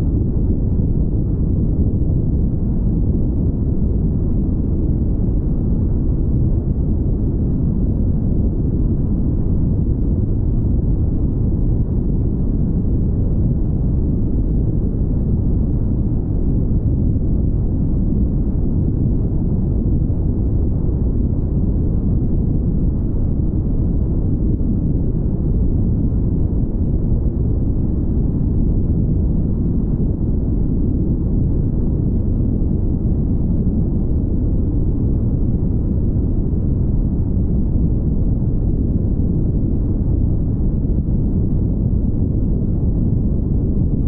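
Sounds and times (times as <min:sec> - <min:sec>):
wind noise: 0:00.0 - 0:44.0.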